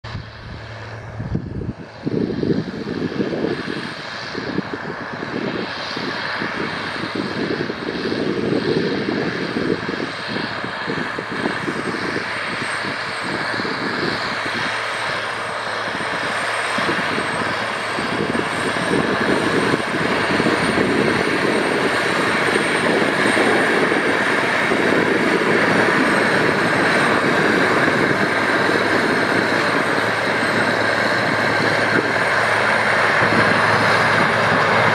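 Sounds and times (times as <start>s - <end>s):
tractor diesel engine droning: 0.0s - 34.9s.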